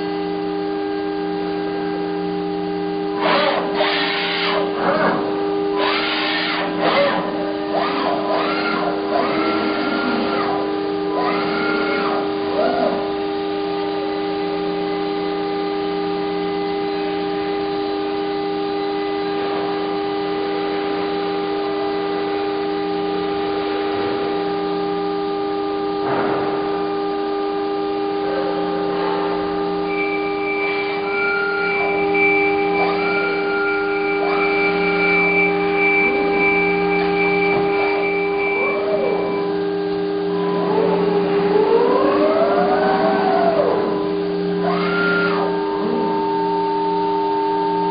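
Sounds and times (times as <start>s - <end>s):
high gliding machine whines: 0.0s - 47.9s
machine hum of held tones: 0.0s - 47.9s.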